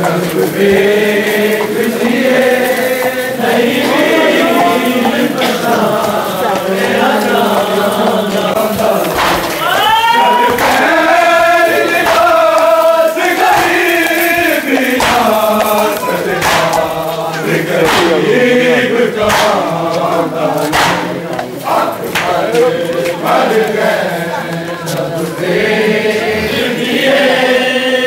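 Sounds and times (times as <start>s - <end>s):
crowd of men chanting: 0.0s - 28.0s.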